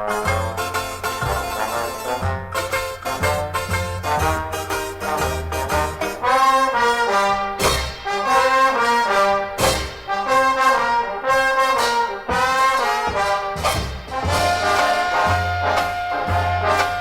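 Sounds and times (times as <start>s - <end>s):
brass section held chords: 0.0s - 17.0s
jazz orchestra music: 0.0s - 17.0s.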